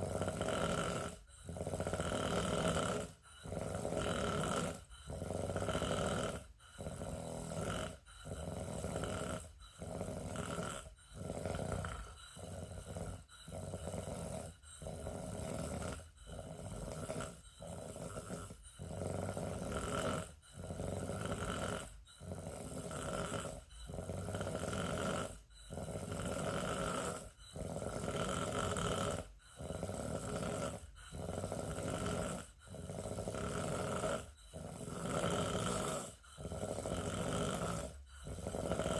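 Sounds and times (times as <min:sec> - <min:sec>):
person snoring: 0:00.0 - 0:38.9.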